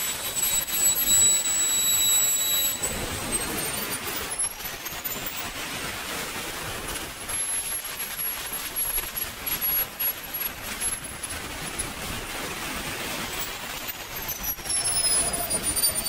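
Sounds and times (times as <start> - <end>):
steady rushing noise: 2.6 - 16.0.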